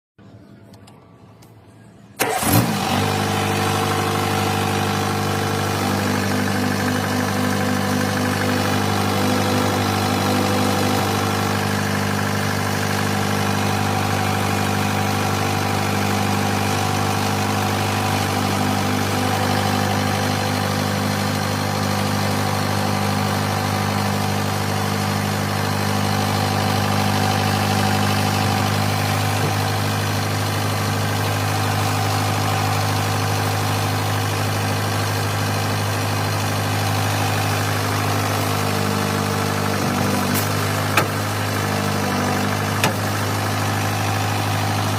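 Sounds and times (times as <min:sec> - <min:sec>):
tractor diesel engine running: 0:00.2 - 0:44.9.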